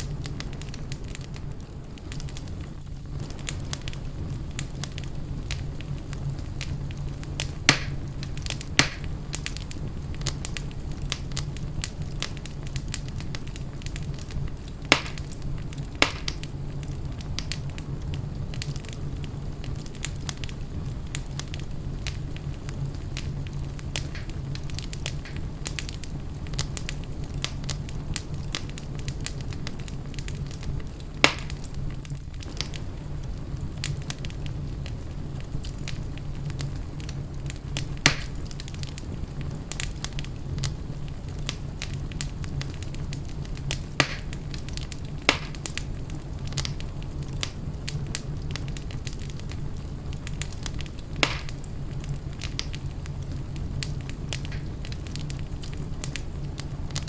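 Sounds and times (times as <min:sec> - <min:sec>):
fire crackling: 0:00.0 - 0:57.0
low rumble of flames: 0:00.0 - 0:57.0
sharp pops of burning wood: 0:03.2 - 0:19.0, 0:19.7 - 0:33.0, 0:33.8 - 0:57.0.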